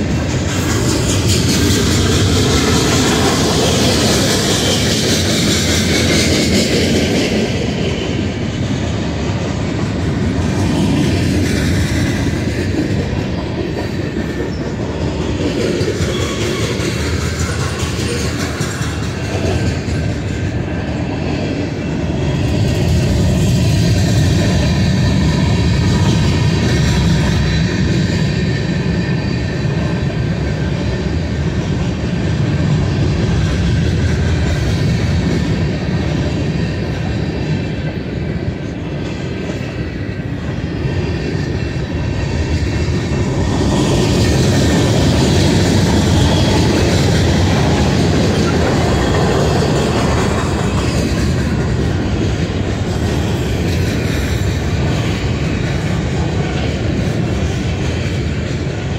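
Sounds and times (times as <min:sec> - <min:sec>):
freight train wheels rumbling: 0:00.0 - 0:58.9
wheels clickety-clack: 0:00.0 - 0:58.9.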